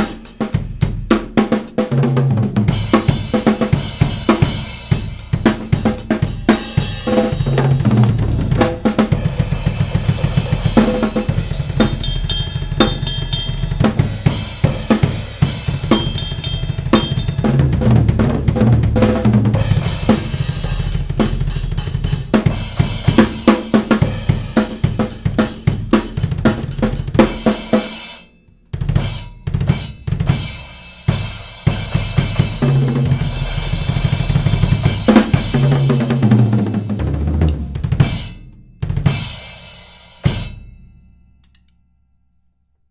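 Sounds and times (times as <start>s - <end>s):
drum kit groove: 0.0s - 40.8s.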